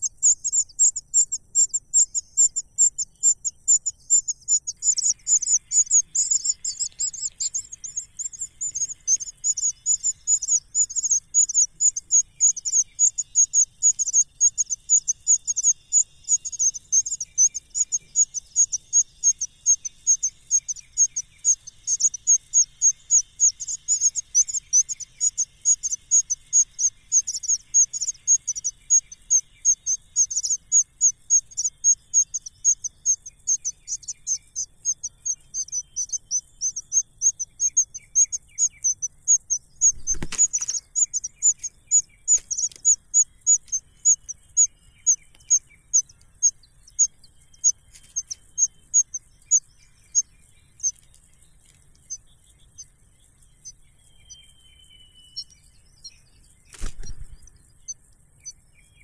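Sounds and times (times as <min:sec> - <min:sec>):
nestlings chirping: 0:00.0 - 0:59.0.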